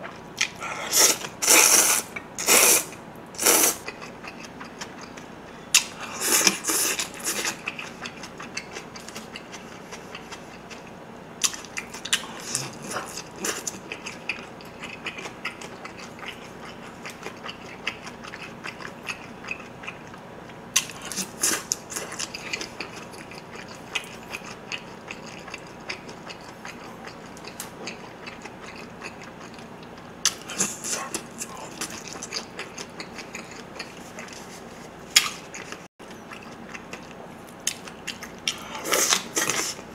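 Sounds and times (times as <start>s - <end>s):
wet chewing and crunching: 0.0s - 2.6s, 3.4s - 39.9s.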